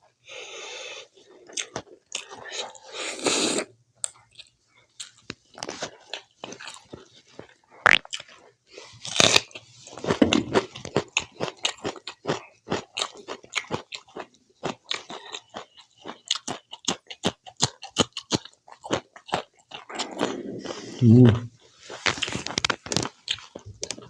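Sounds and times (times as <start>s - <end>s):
close-up chewing: 1.1s - 24.0s.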